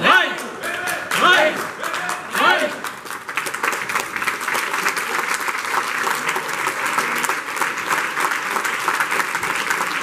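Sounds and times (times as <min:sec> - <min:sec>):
crowd applauding: 0:00.2 - 0:10.0.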